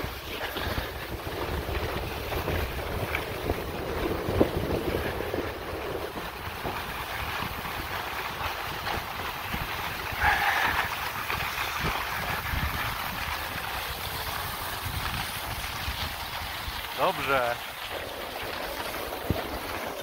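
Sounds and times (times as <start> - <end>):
skis sliding on snow: 0.0 - 20.0
wind buffeting microphone: 0.0 - 20.0.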